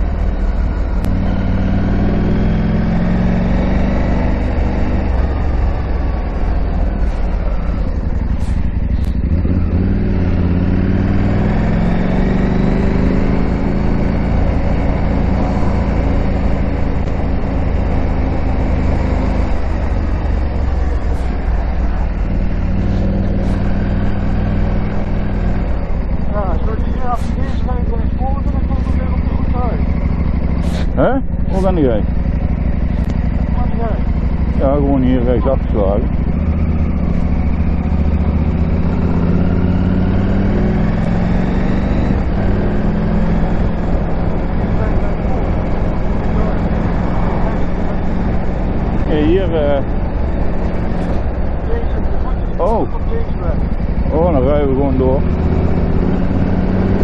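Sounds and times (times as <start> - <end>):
motorcycle engine running: 0.0 - 57.0
rough off-road noise: 0.0 - 57.0.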